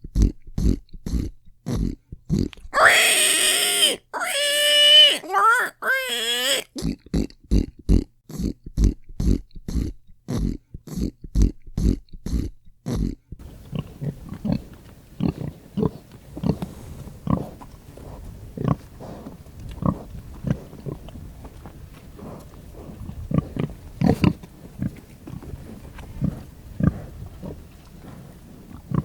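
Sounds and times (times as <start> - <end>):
background noise: 0.0 - 29.0
hog grunting: 0.1 - 29.0.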